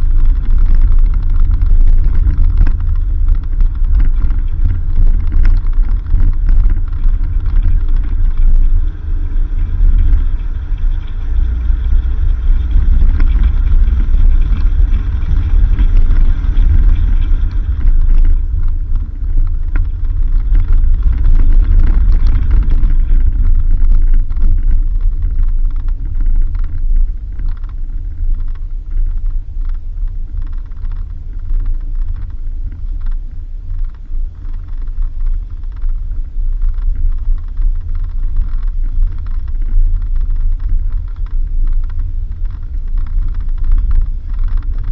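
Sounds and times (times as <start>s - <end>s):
vehicle tyres rumbling on dirt road: 0.0s - 44.9s.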